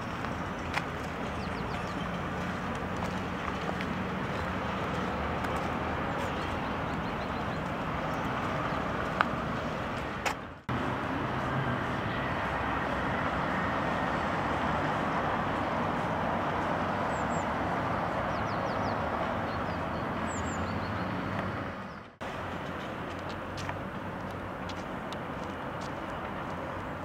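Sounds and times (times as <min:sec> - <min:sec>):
road traffic hum: 0:00.0 - 0:27.0.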